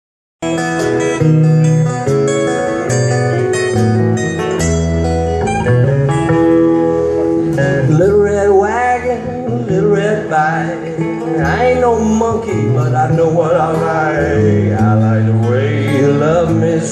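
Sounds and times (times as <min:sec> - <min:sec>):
acoustic guitar: 0:00.4 - 0:16.9
bass line: 0:00.4 - 0:16.9
electric guitar: 0:00.4 - 0:16.9.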